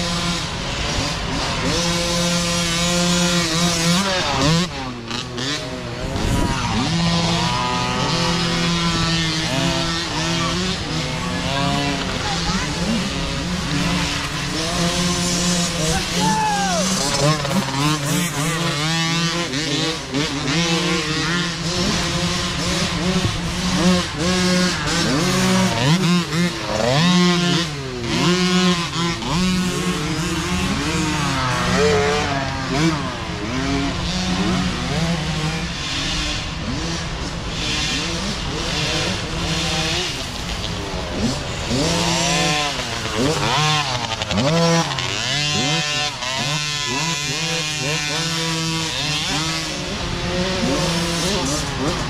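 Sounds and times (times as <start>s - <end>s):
dirt bike engines revving: 0.0s - 52.0s.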